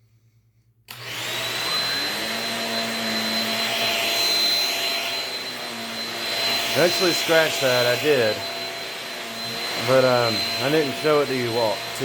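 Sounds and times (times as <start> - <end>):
stick vacuum running on carpet: 0.9 - 12.0.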